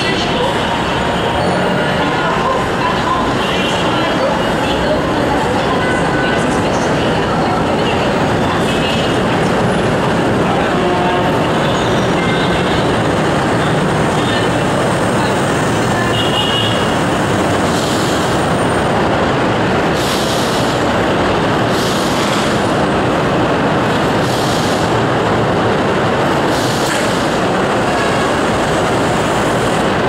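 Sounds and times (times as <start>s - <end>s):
light rail train rumbling: 0.0s - 30.0s.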